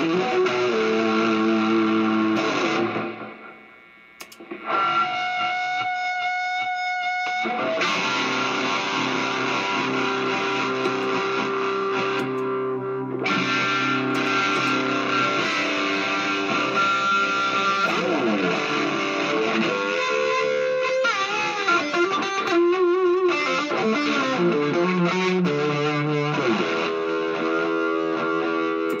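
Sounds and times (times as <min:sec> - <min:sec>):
electric guitar notes and chords: 0:00.0 - 0:29.0.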